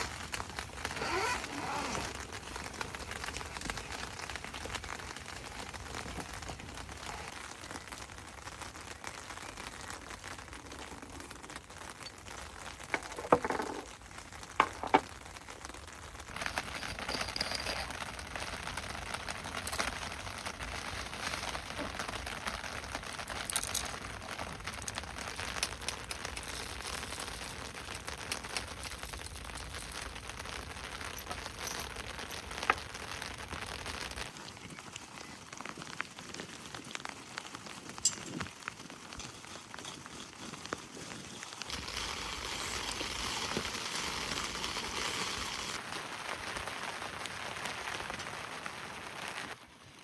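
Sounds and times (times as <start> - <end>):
heavy rain falling: 0.0 - 39.5, 41.5 - 50.0.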